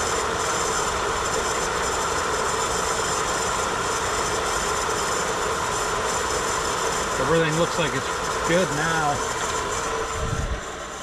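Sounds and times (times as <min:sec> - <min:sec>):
furnace mechanical whir: 0:00.0 - 0:11.0.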